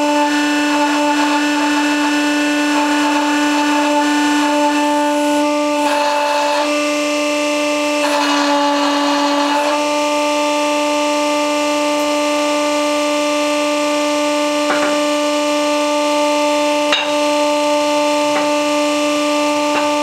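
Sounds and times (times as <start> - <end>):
hydraulic pump whining: 0.0 - 20.0.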